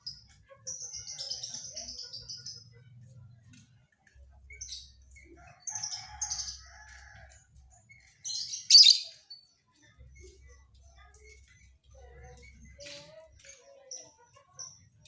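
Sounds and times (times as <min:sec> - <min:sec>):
canary singing high chirps: 0:00.0 - 0:02.8, 0:04.5 - 0:07.2, 0:07.8 - 0:15.0.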